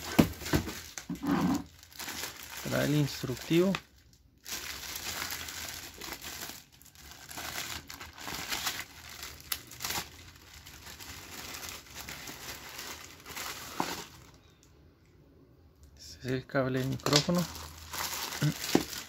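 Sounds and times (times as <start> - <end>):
plastic bags crinkling: 0.0 - 14.6, 16.2 - 19.0.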